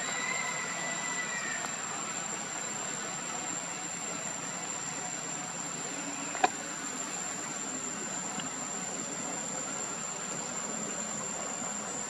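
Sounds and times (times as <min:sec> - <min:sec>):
high-pitched whine: 0:00.0 - 0:12.0
outdoor background noise: 0:00.0 - 0:12.0.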